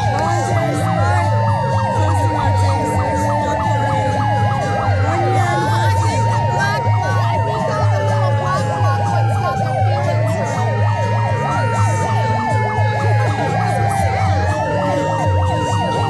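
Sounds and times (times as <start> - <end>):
siren wail: 0.0 - 16.0
sirens yelping: 0.0 - 16.0.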